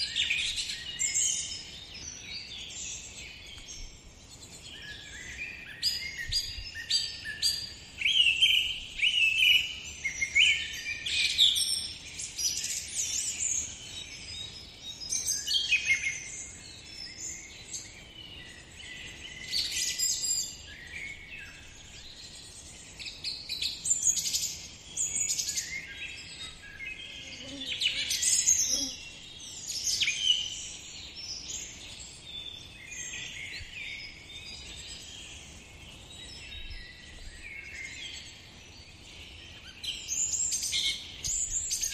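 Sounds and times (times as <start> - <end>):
songbirds chirping and whistling: 0.0 - 41.9.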